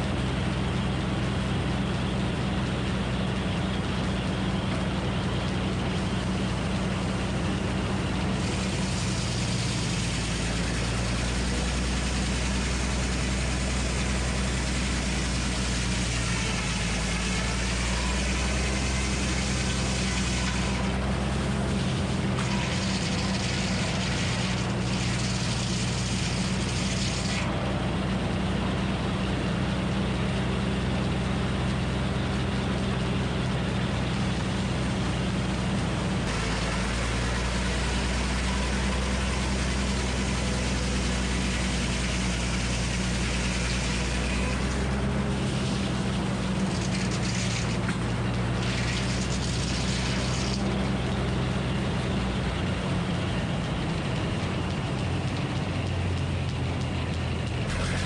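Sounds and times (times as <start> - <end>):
deep engine hum: 0.0 - 58.0.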